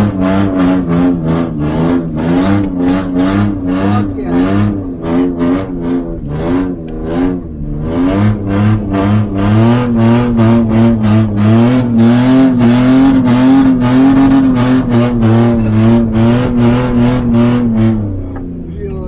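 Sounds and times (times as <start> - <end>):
engine revving near redline: 0.0 - 19.0.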